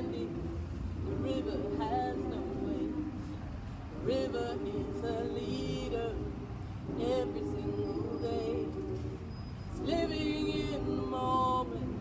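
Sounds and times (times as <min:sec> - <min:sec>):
mixed choir singing in harmony: 0:00.0 - 0:12.0.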